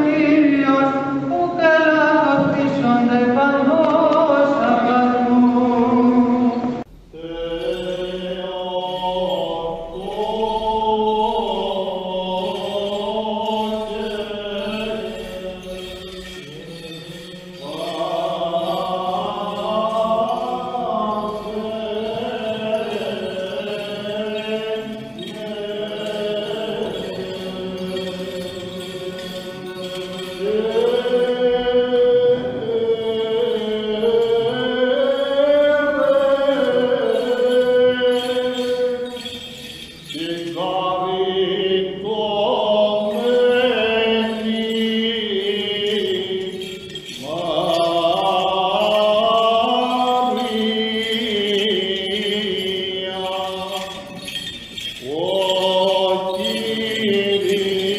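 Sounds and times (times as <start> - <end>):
voices chanting slow melody: 3.4 - 57.9.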